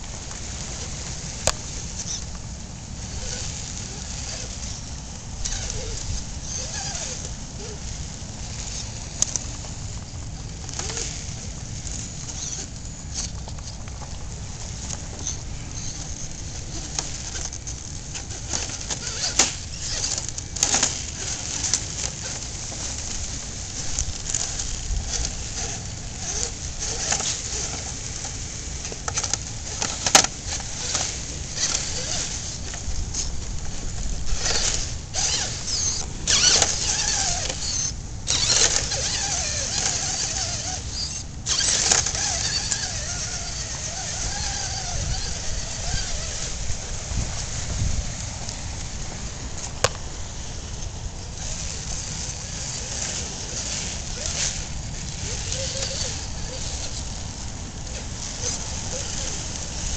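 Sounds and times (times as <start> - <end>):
tyres and chassis scraping rock: 0.0 - 59.9
small electric motor whirring: 0.3 - 13.8, 14.6 - 59.9.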